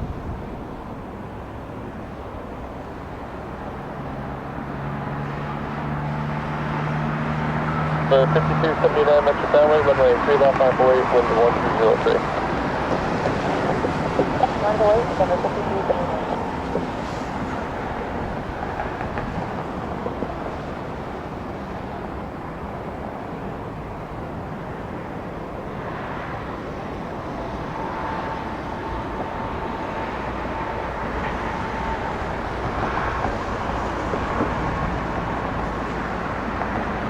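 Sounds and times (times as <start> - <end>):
faint jet engine whine: 0.0 - 37.0
jet engines rumbling: 0.0 - 37.0.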